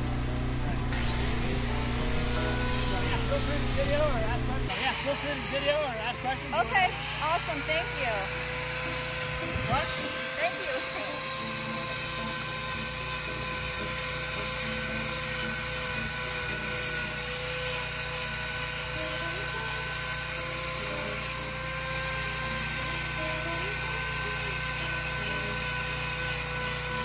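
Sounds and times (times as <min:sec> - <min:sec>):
angle grinder whining: 0:00.0 - 0:27.0.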